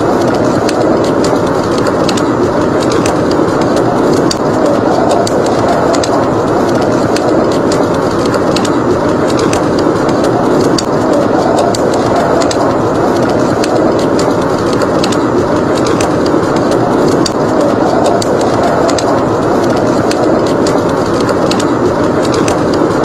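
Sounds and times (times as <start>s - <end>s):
blizzard wind blowing: 0.0s - 23.0s
log fire crackling: 0.0s - 23.0s.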